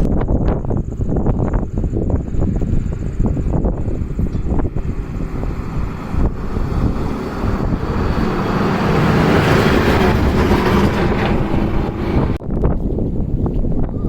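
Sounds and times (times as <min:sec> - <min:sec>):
motor rumbling: 0:00.0 - 0:12.4
wind buffeting microphone: 0:00.0 - 0:14.0.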